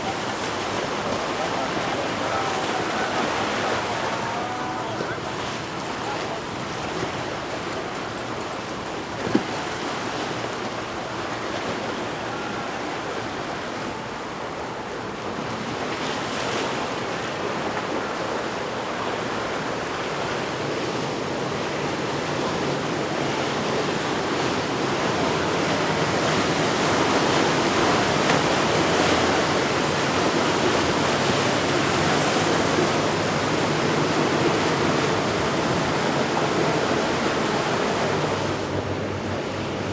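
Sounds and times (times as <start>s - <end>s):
surf and churning water: 0.0s - 39.9s.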